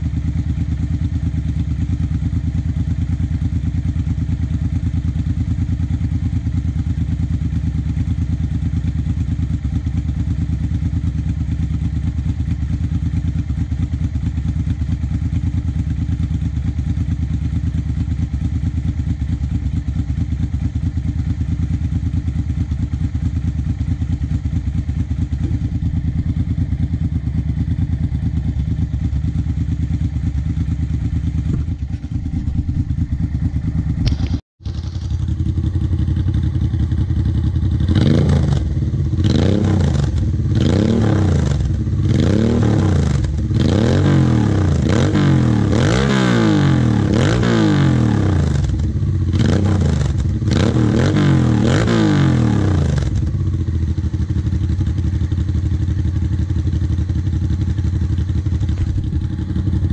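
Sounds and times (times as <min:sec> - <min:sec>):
motorcycle engine idling: 0:00.0 - 0:45.8, 0:46.6 - 0:59.9
motorcycle engine revving: 0:00.0 - 0:59.9.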